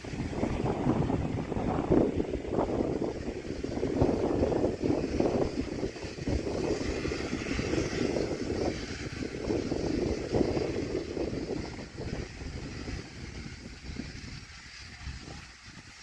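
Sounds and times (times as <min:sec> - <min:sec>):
steam train rumbling by: 0:00.0 - 0:16.0.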